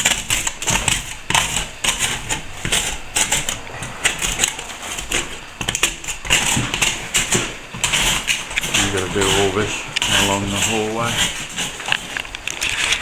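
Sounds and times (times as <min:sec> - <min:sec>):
hand tool scraping plaster: 0:00.0 - 0:13.0.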